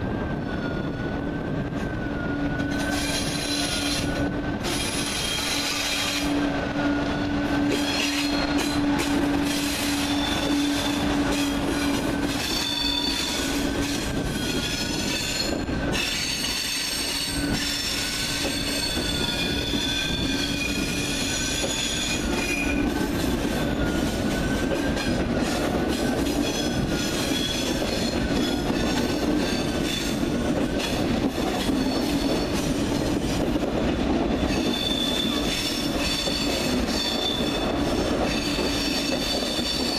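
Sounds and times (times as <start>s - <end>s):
rumble of wheels on rail: 0.0s - 39.9s
train wheels squealing: 0.3s - 30.9s, 31.6s - 33.0s, 34.4s - 39.9s.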